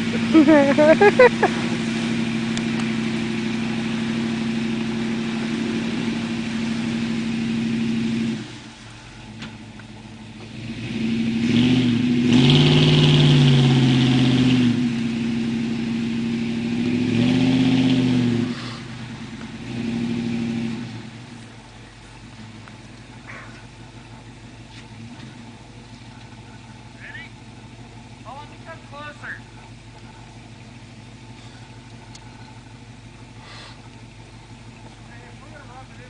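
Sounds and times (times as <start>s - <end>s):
pickup truck engine revving: 0.0s - 36.0s.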